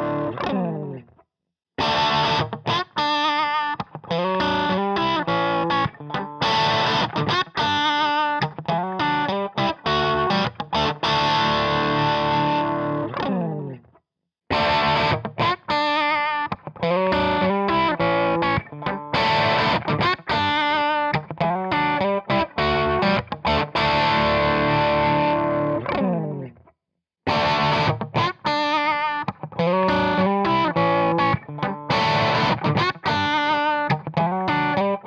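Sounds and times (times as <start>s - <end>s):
distorted electric guitar loop: 0.0s - 1.0s, 1.8s - 13.8s, 14.5s - 26.5s, 27.3s - 35.0s.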